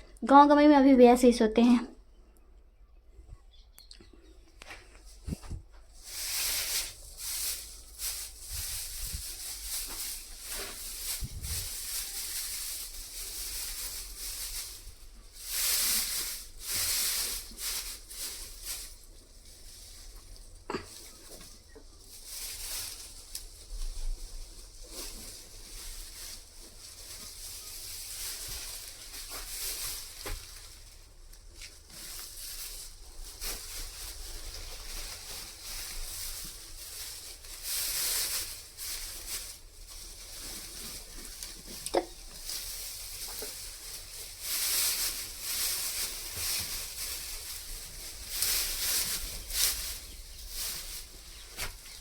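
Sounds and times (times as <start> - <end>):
dry straw rustling and crackling: 4.3 - 52.0.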